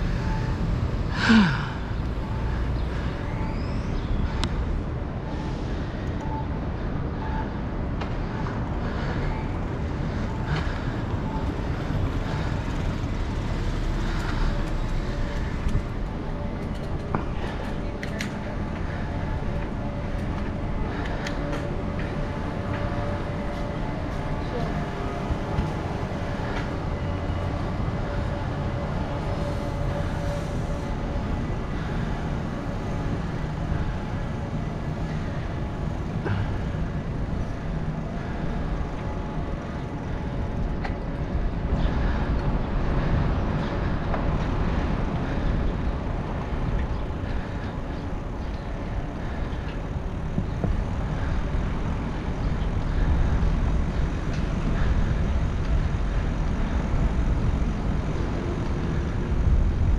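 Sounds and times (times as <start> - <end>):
road noise: 0.0 - 59.9
wind rumble on microphone: 3.8 - 59.9.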